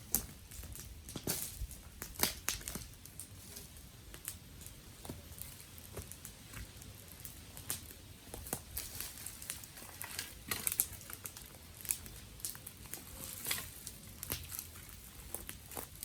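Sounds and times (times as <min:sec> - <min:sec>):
dry wood crackling and snapping: 0:00.0 - 0:16.0.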